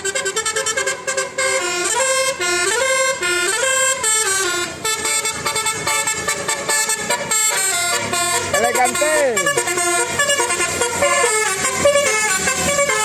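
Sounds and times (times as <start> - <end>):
multi-tone bus horn playing melody: 0.0 - 13.0.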